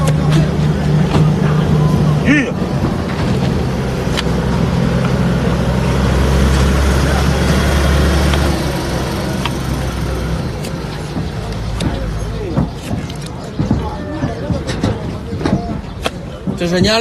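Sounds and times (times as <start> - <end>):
motor engine running: 0.0 - 14.4.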